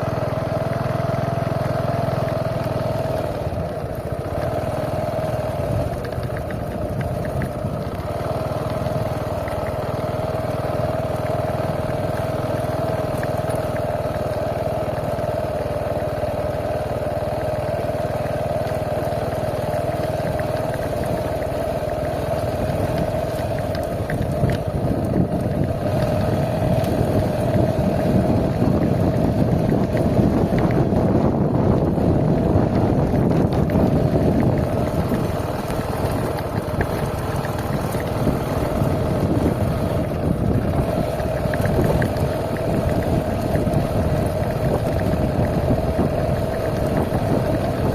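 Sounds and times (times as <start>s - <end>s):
engine humming: 0.0s - 47.9s
wind rumble on microphone: 0.0s - 47.9s.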